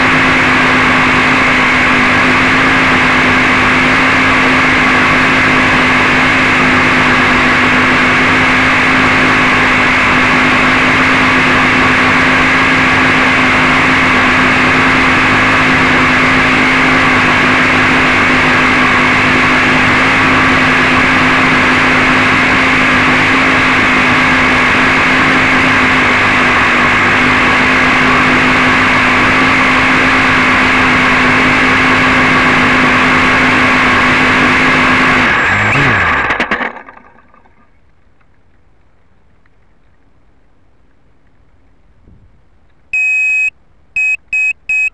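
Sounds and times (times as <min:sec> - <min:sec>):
quadcopter motors humming and whining: 0:00.0 - 0:36.3.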